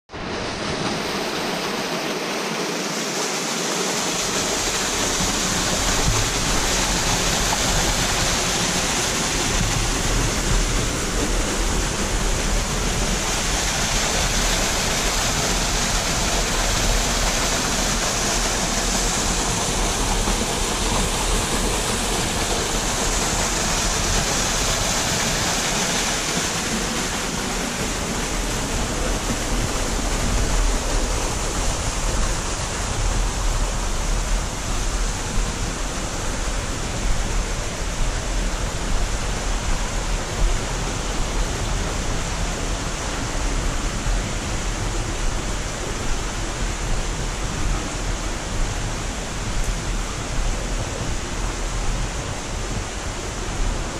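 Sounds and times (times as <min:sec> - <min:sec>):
waterfall splashing into pool: 0:00.4 - 0:53.9.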